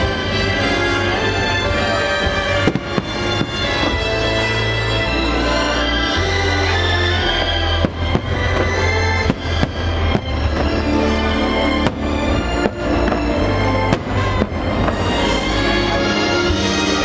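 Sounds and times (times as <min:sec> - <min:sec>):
loud show music: 0:00.0 - 0:17.0.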